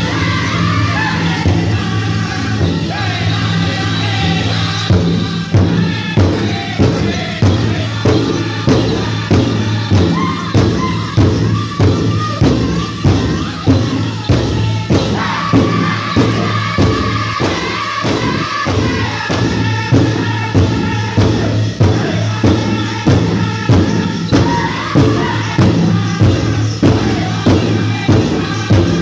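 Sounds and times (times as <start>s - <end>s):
big drum beating: 0.0s - 29.0s
voices singing in unison: 0.0s - 29.0s.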